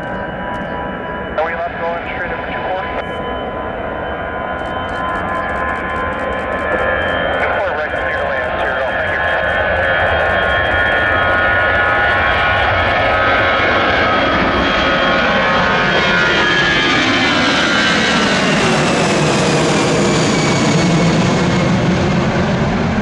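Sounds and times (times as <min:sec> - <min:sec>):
jet engines passing by: 0:00.0 - 0:23.0.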